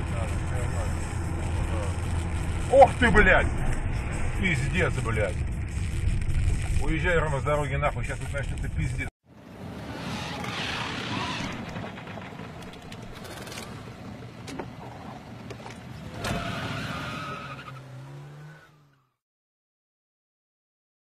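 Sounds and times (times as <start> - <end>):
cartoon cart driving and skidding: 0.0 - 19.2.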